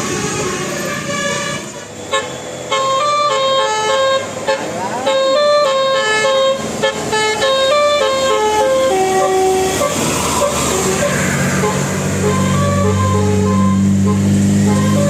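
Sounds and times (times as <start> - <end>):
bus horn playing a melody: 0.1 - 15.0.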